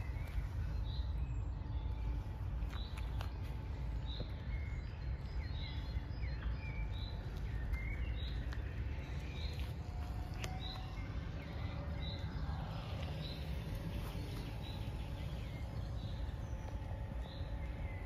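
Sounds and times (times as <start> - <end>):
low steady rumble: 0.0 - 18.0
songbirds singing: 0.0 - 18.0.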